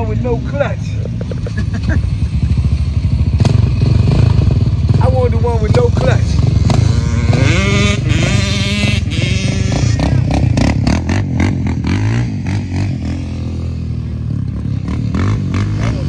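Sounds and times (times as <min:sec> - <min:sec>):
atv engines revving: 0:00.0 - 0:16.0.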